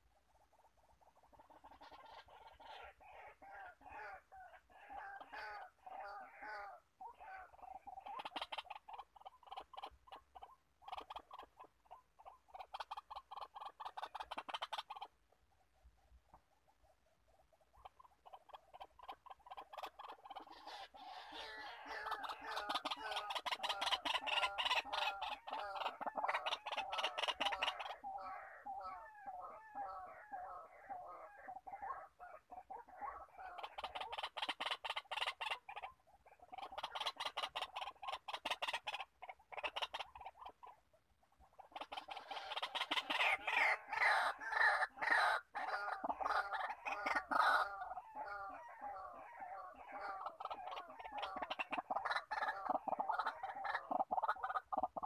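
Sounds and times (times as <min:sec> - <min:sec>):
waterhen harsh repeated calls: 0:01.0 - 0:15.4, 0:17.6 - 0:55.0.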